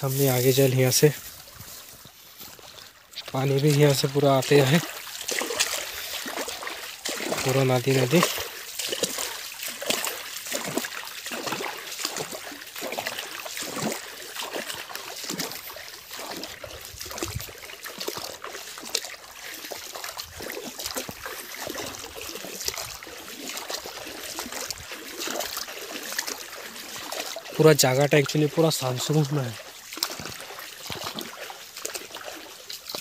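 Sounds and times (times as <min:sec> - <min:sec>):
stream trickling and babbling: 0:00.0 - 0:33.0.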